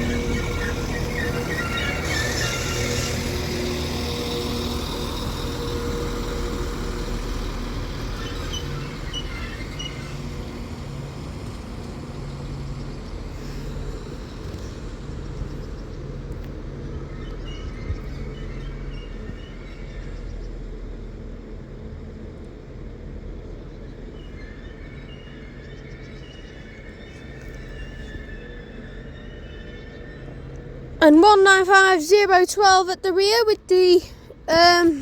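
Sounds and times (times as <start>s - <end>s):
diesel train engines running: 0.0s - 35.0s.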